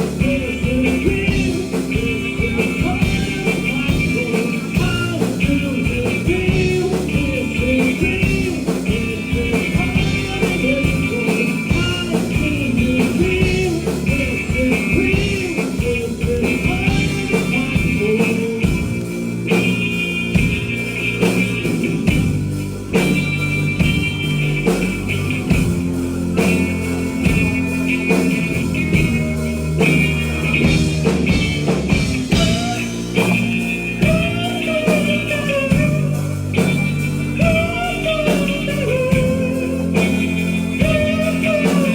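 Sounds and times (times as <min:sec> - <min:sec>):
electric guitar: 0:00.0 - 0:41.9
live rock band playing: 0:00.0 - 0:41.9
steady drum beat: 0:00.0 - 0:41.9.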